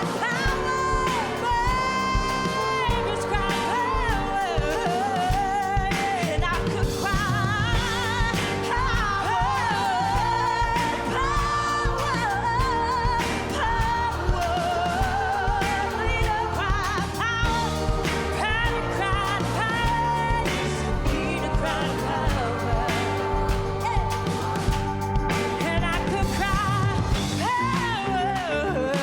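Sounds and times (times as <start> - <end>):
band backing: 0.0 - 29.0
person singing pop song live: 0.0 - 29.0.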